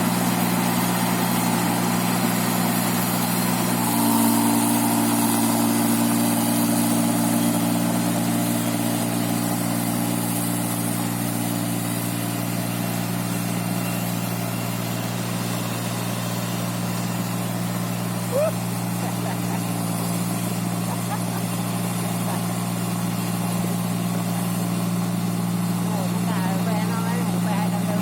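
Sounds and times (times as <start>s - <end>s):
machine engine running: 0.0s - 28.0s.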